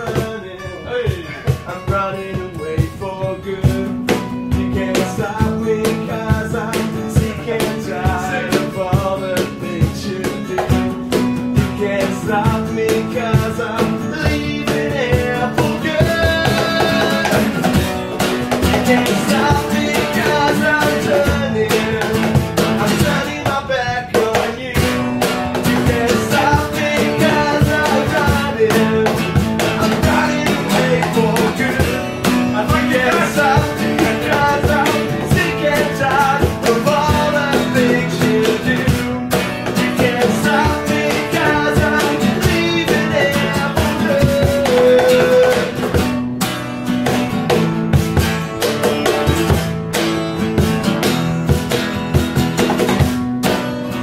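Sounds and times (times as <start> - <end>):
voices singing: 0.0 - 45.9
acoustic guitars strummed: 0.0 - 54.0
hand-slapped cajon beat: 0.0 - 54.0.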